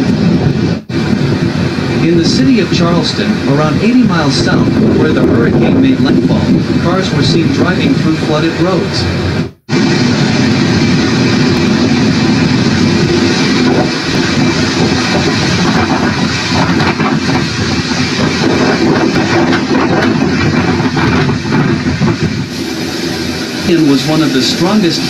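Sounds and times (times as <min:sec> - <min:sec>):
storm wind: 0:00.0 - 0:25.0
surf: 0:00.0 - 0:25.0.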